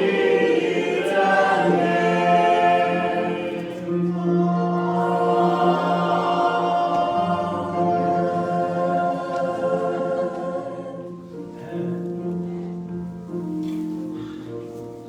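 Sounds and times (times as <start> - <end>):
choir singing a hymn: 0.0 - 13.0.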